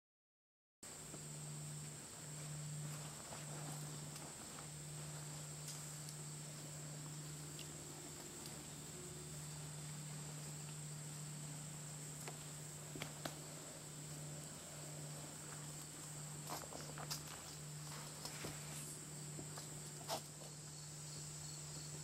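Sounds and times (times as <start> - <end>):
insect chirring: 0.9 - 22.0.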